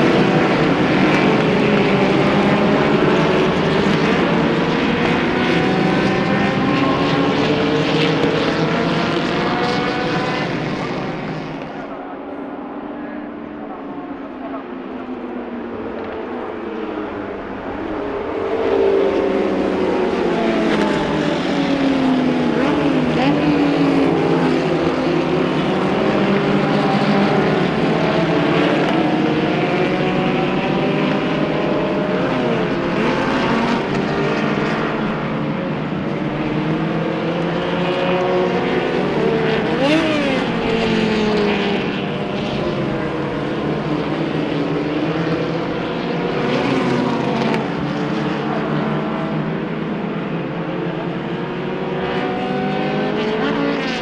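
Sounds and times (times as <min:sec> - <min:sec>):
racing car engines accelerating: 0:00.0 - 0:54.0.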